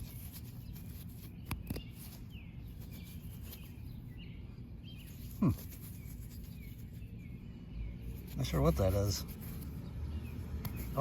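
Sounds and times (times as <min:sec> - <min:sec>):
faint bird chirps: 0:00.0 - 0:11.0
low outdoor background hum: 0:00.0 - 0:11.0.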